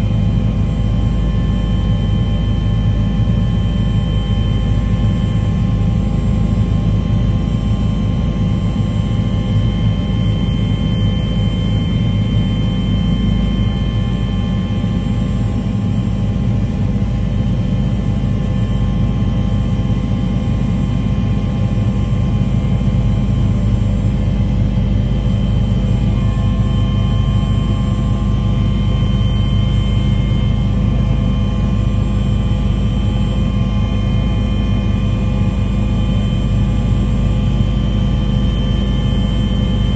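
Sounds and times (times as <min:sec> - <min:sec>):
engine drone with whining tones: 0:00.0 - 0:39.9.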